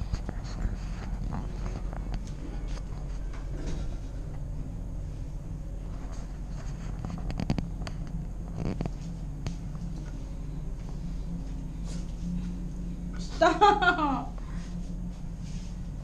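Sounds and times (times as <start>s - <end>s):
elevator hum: 0.0s - 16.0s.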